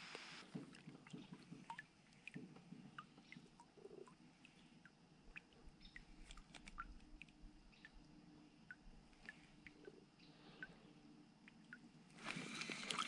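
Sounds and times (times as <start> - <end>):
faint small ticks and chirps: 0.0 - 13.0.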